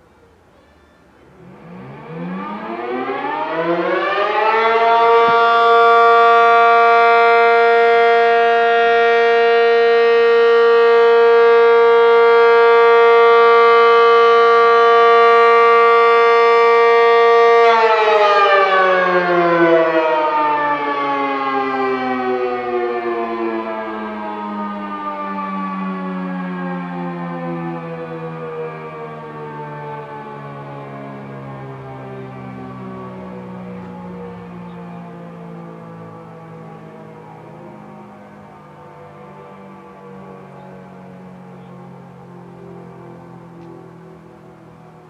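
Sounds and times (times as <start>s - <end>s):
warning siren: 0.0s - 45.0s.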